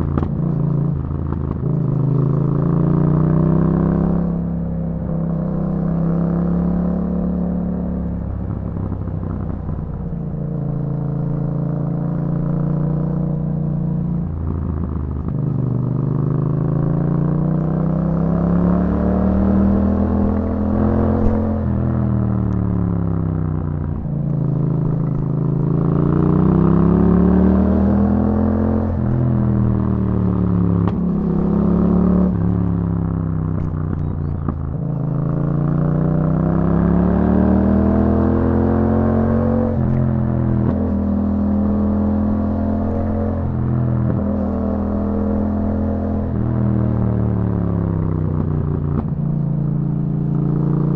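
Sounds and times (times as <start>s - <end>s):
motorcycle engine revving while riding: 0.0s - 50.9s.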